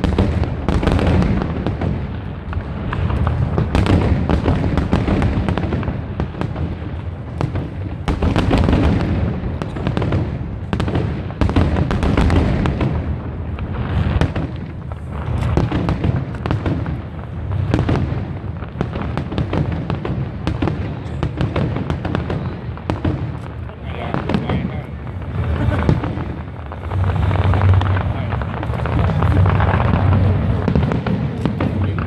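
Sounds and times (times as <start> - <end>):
fireworks booms and crackling: 0.0 - 32.0.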